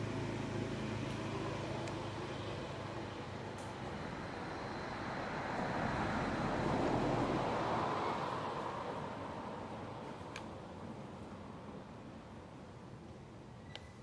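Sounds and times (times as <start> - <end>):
passing road vehicle: 0.0 - 12.6.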